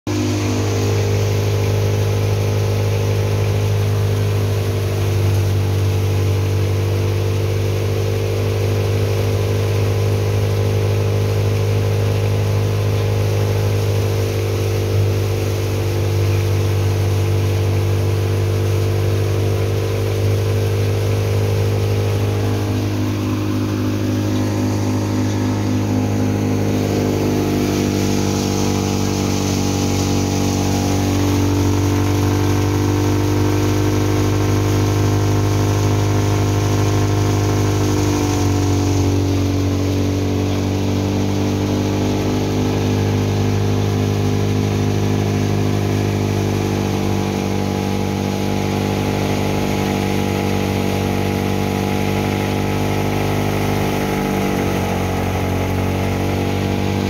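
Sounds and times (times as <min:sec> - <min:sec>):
thresher running: 0:00.1 - 0:57.0.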